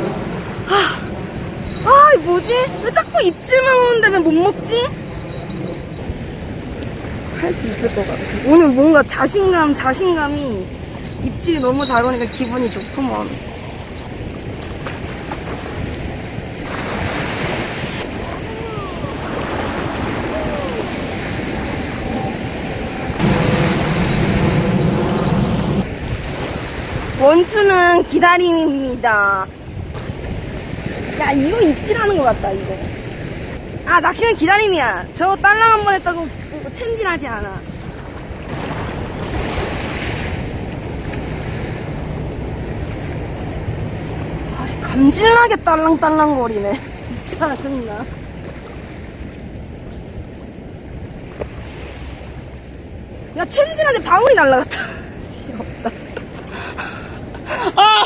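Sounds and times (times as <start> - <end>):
small waves washing onto sand: 0.0 - 57.8
wind rumbling on microphone: 0.0 - 58.0.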